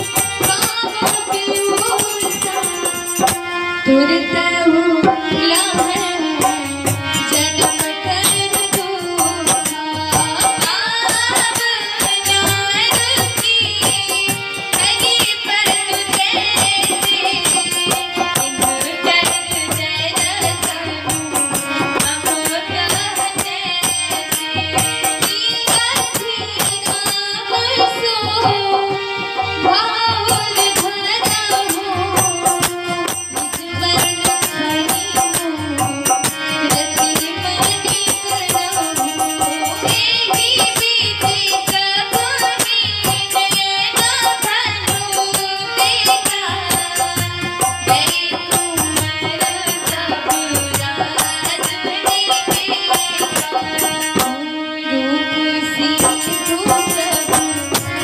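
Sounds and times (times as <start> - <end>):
harmonium chords: 0.0 - 58.0
woman singing: 0.0 - 58.0.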